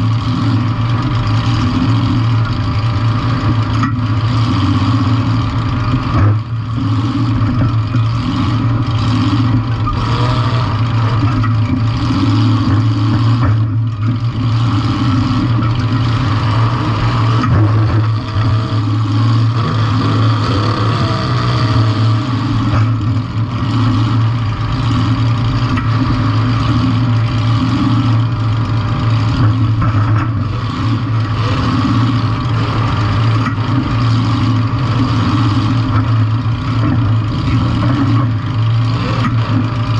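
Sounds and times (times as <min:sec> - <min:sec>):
loud car engine running: 0:00.0 - 0:39.9.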